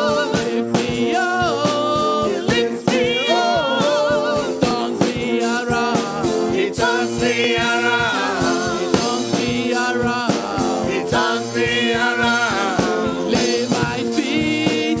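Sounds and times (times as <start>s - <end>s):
steady drum beat: 0.0s - 15.0s
women singing gospel: 0.0s - 15.0s.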